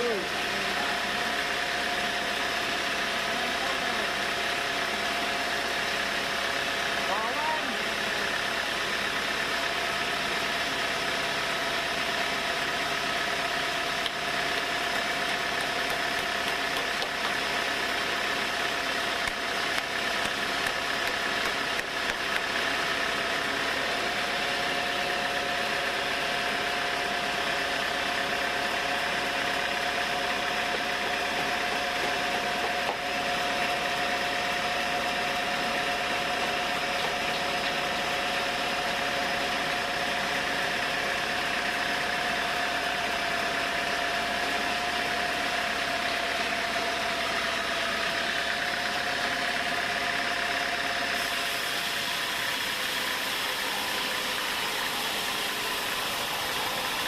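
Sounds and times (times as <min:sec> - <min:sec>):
sawmill mechanical din: 0:00.0 - 0:57.0.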